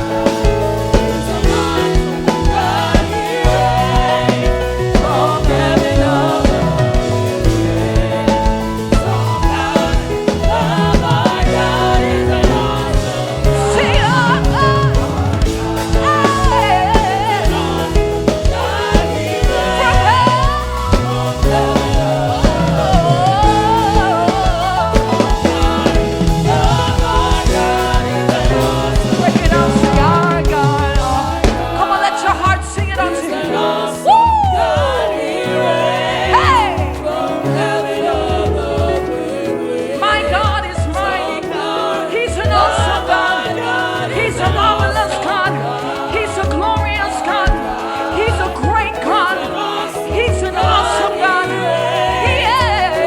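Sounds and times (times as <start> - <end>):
band with drums: 0.0 - 53.0
gospel singing voices: 0.0 - 53.0.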